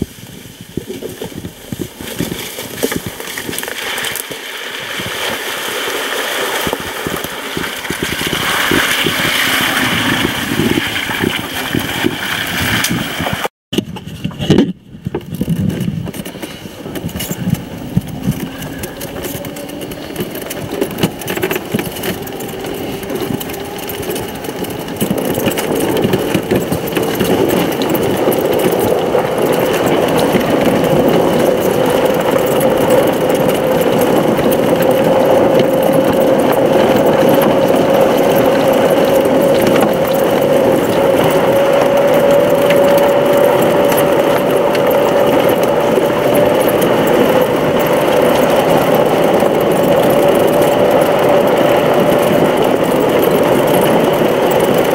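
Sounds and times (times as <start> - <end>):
tyre noise on dirt trail: 0.0 - 54.9
electric motor hum: 2.6 - 13.4, 17.0 - 54.9.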